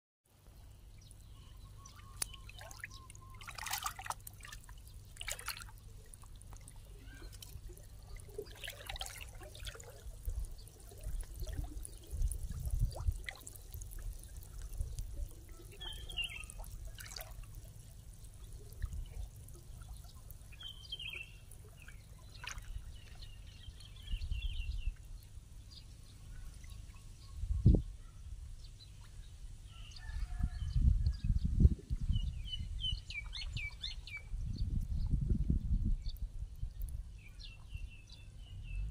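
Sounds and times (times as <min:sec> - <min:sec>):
water trickling and splashing: 0:00.6 - 0:26.9, 0:31.9 - 0:38.3.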